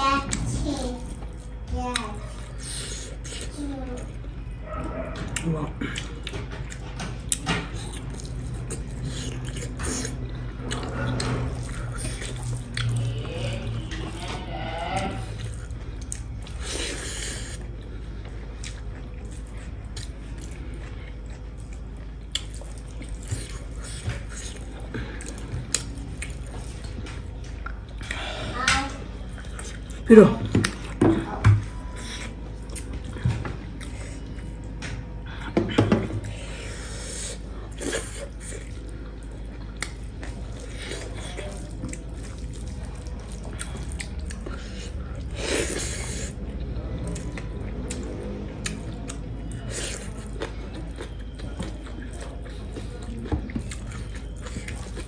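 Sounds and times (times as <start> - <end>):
chewing and biting: 0.3 - 35.6, 36.2 - 55.0.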